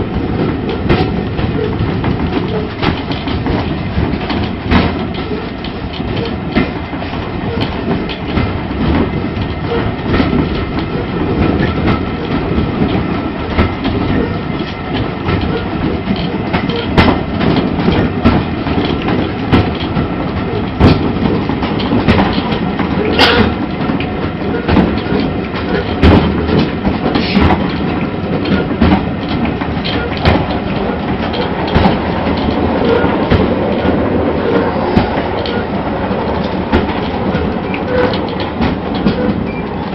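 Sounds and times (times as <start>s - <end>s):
train wheels rumbling on rails: 0.0s - 39.9s
wheels knocking over rail joints: 0.0s - 39.9s.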